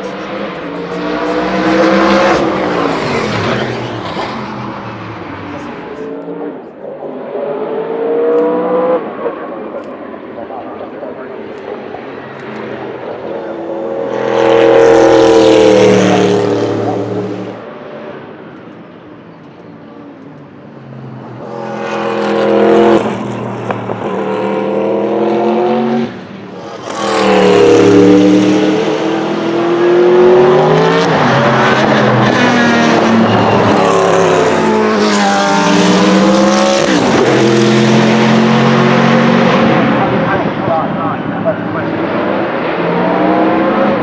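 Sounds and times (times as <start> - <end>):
race car engine: 0.0 - 44.0.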